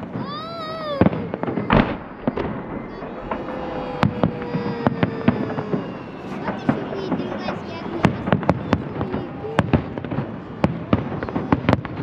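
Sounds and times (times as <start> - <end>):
fireworks bangs and crackles: 0.0 - 12.0
voices: 0.1 - 9.9.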